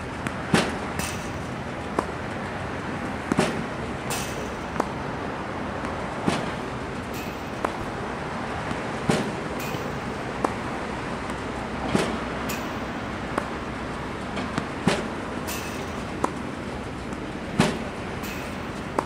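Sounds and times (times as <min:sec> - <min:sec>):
racket hitting ball: 0:00.0 - 0:19.0
steady background hum: 0:00.0 - 0:19.0.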